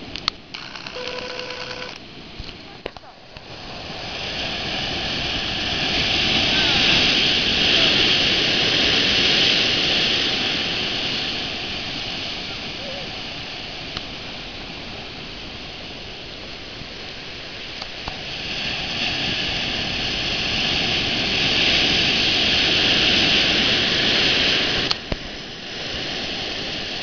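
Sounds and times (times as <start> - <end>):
ocean surf washing around pilings: 0.0 - 27.0.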